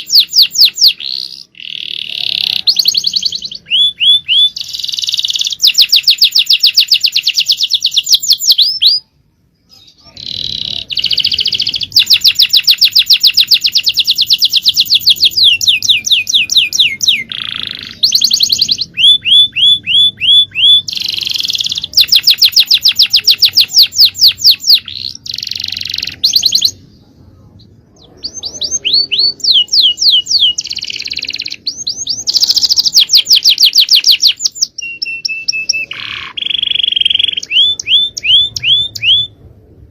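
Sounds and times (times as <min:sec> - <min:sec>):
canary singing trills: 0:00.0 - 0:39.5.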